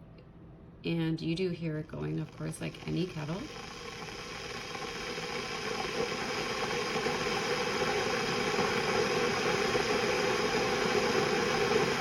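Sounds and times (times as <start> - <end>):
electric kettle heating water: 1.6 - 12.0.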